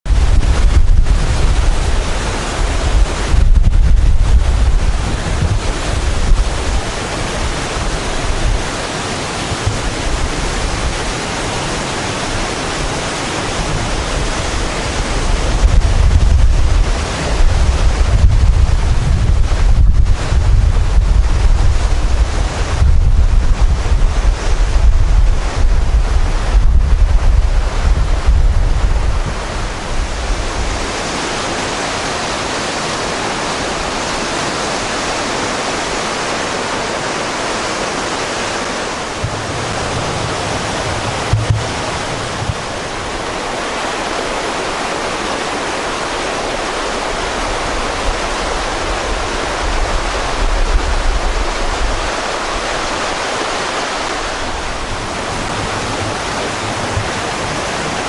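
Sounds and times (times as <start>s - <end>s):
wind buffeting microphone: 0.0s - 58.0s
stream rushing over stones: 0.1s - 58.0s.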